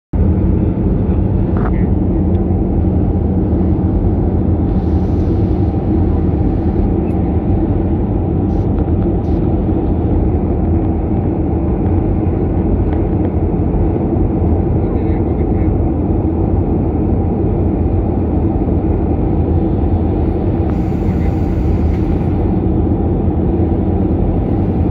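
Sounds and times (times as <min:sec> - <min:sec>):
jet engine cabin rumble: 0:00.1 - 0:24.9
rushing air: 0:00.2 - 0:12.8, 0:16.7 - 0:24.9.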